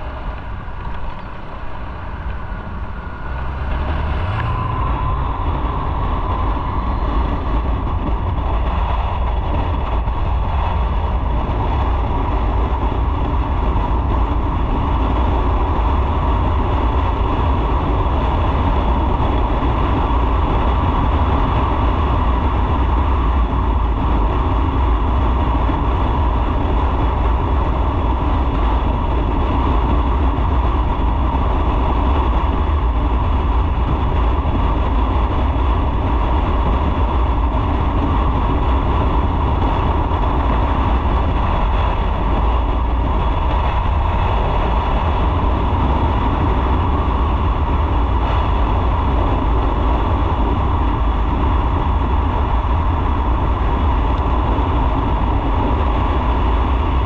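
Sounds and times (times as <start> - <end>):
motorcycle riding rumble: 0.0 - 57.0.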